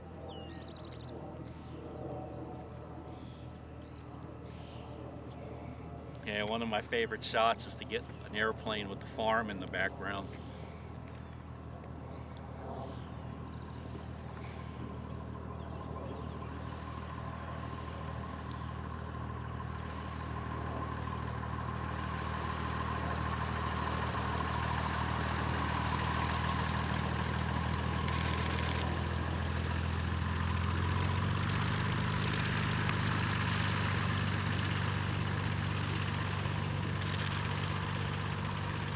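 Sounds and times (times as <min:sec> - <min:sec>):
propeller plane engine: 0:00.0 - 0:38.9.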